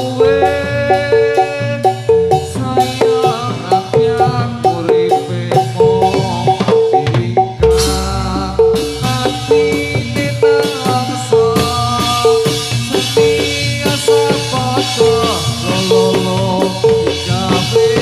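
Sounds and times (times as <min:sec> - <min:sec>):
drumming: 0:00.0 - 0:18.0
gamelan metallophones: 0:00.0 - 0:18.0.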